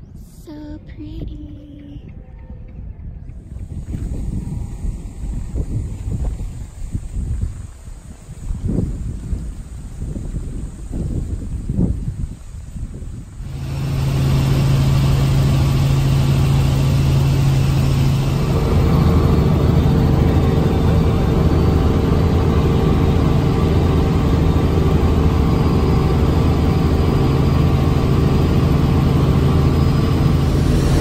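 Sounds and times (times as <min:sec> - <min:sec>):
helicopter engine and rotors droning: 0:00.0 - 0:31.0.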